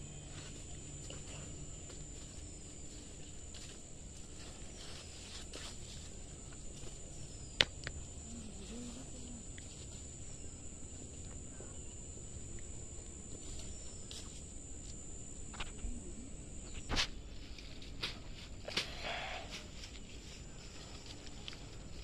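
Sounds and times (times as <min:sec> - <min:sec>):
high-pitched whine: 0:00.0 - 0:22.0
rustling leaves and undergrowth: 0:00.1 - 0:22.0.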